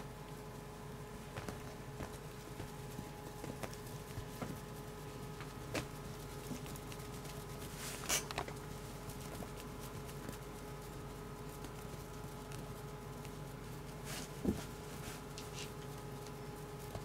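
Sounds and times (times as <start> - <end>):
kittens' paws patting on bed cover: 0.0 - 17.0
steady low hum: 0.0 - 17.0.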